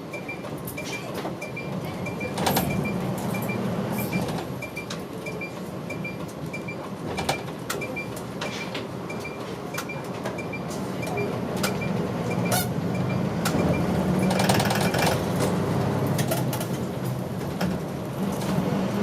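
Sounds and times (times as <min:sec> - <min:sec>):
bus diesel engine: 0:00.0 - 0:19.0
rattles and clicks from bus body: 0:00.0 - 0:19.0.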